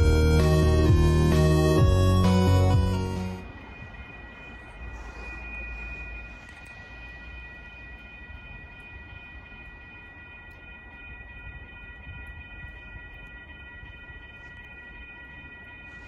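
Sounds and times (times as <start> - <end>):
steady high-pitched tone: 0.0 - 16.0.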